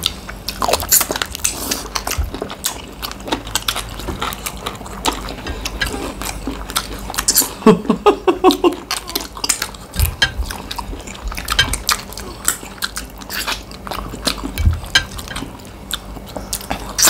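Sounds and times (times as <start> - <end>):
wet chewing and lip smacks: 0.0 - 7.6, 8.8 - 17.0.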